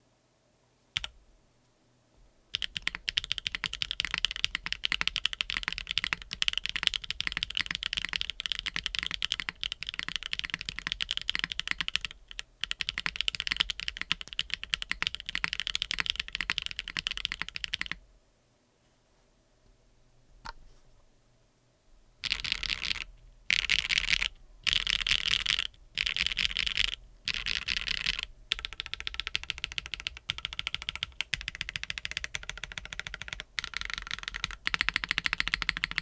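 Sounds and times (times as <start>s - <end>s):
fast typing on mechanical keyboard: 2.5s - 18.0s, 22.2s - 36.0s.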